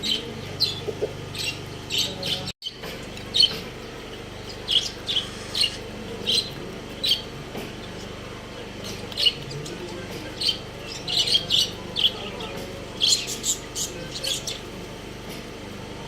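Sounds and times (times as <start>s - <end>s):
pet birds chirping: 0.0s - 14.8s
steady low hum: 0.0s - 16.0s.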